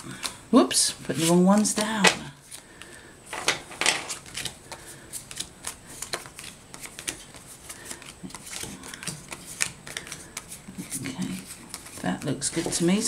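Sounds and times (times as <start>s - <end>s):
playing cards flicking and tapping: 1.2s - 13.0s.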